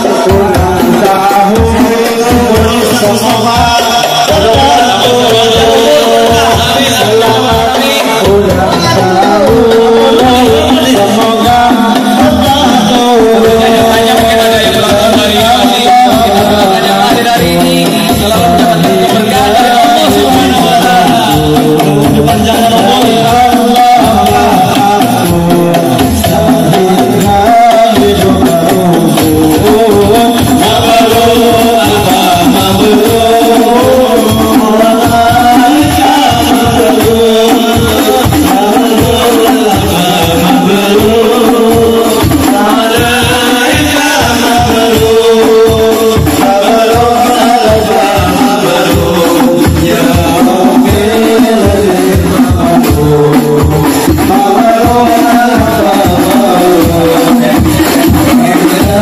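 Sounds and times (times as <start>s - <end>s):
frame drums with jingles: 0.0s - 59.0s
men singing devotional melody: 0.0s - 59.0s.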